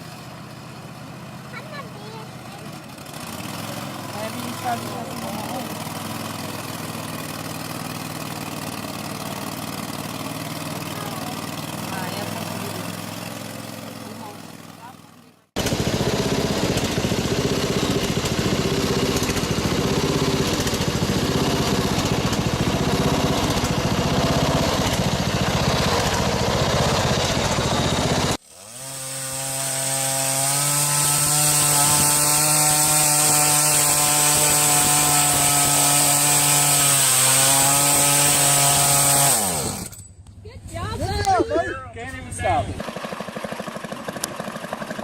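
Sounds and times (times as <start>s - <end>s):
small engine running rough: 0.0s - 41.2s, 42.4s - 45.0s
motor hum winding down: 3.0s - 40.0s.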